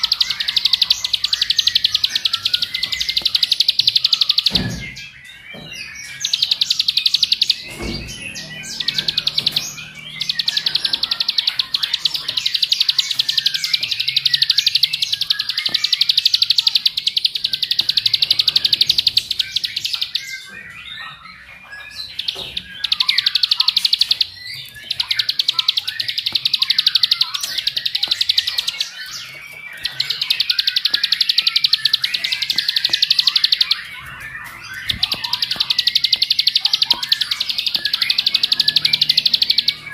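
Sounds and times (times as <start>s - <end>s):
bird singing buzzing trill: 0.0s - 20.6s, 22.0s - 39.9s
bird twittering chirps: 0.0s - 39.9s.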